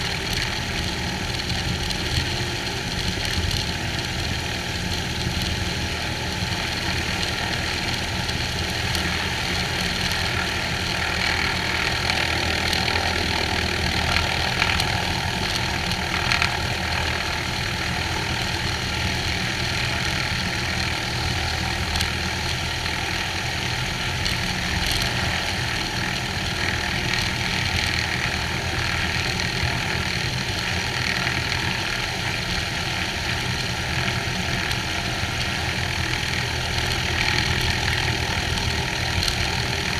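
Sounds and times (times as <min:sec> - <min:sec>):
airplane engine and propeller idling: 0:00.0 - 0:39.9.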